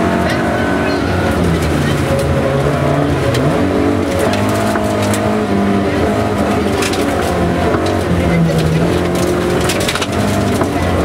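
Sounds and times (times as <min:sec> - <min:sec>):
rally car engine accelerating: 0:00.0 - 0:11.0
gravel clattering against car: 0:01.2 - 0:11.0.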